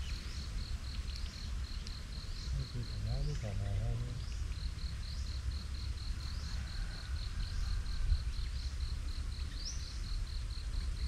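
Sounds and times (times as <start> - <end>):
insects trilling: 0.0 - 11.0
rising insect chirp: 0.0 - 11.0.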